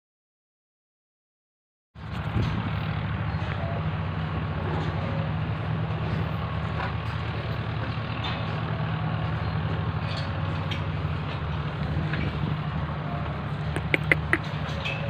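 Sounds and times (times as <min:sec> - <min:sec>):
engine running: 0:02.0 - 0:15.0.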